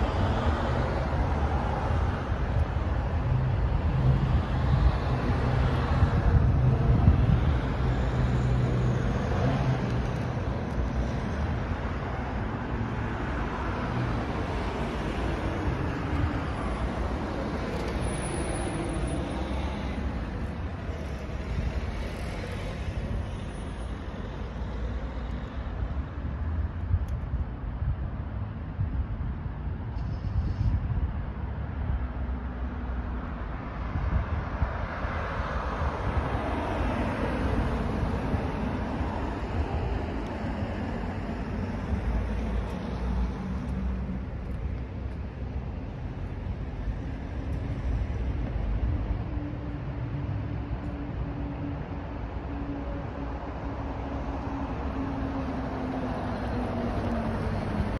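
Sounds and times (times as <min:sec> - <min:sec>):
road traffic rumble: 0:00.0 - 0:57.9.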